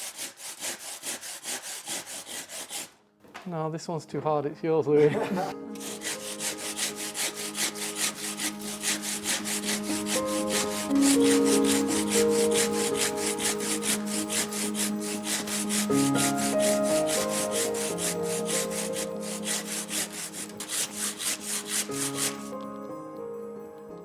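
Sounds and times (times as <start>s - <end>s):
handsaw cutting stone: 0.0s - 3.0s, 5.5s - 22.6s.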